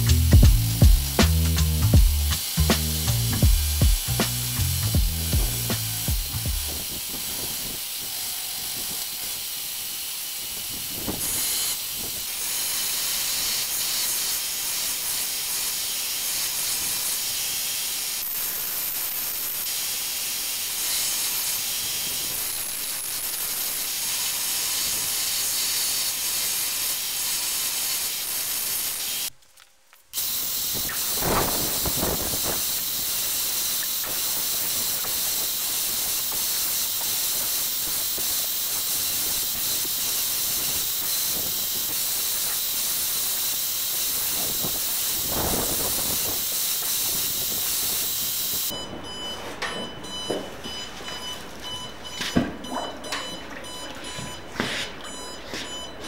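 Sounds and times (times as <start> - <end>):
belt grinder grinding steel: 0.0 - 29.3, 30.2 - 48.8
high hiss of grinding: 0.0 - 29.3, 30.2 - 48.7.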